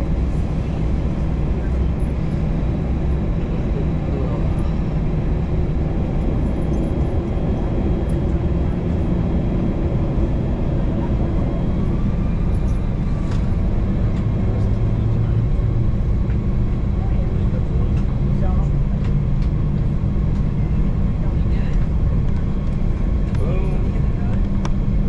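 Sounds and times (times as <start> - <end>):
jet engine cabin rumble: 0.0 - 25.0.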